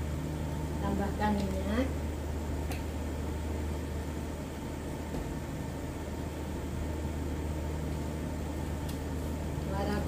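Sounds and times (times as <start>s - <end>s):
gas stove hum and hiss: 0.0s - 10.0s.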